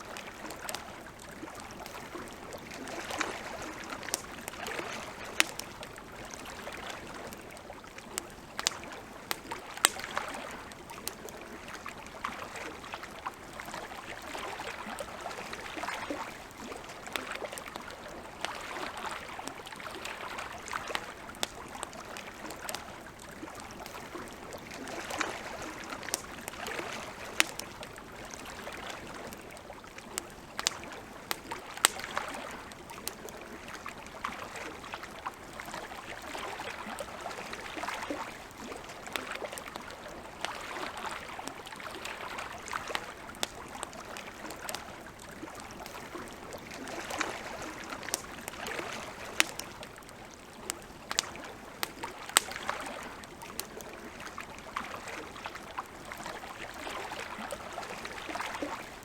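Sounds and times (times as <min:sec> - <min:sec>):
campfire crackling and popping: 0:00.0 - 0:59.0
lake water lapping: 0:00.0 - 0:59.0.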